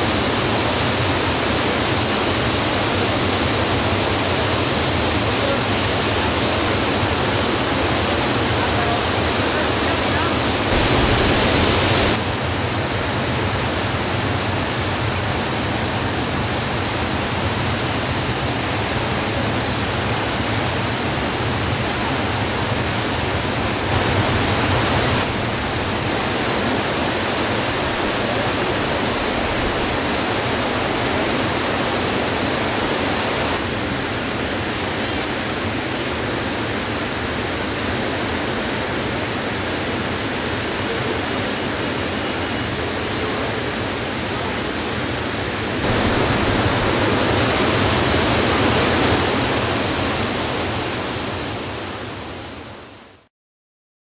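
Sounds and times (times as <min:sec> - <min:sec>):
waterfall rushing: 0:00.0 - 0:12.5, 0:13.5 - 0:34.4, 0:35.5 - 0:53.0.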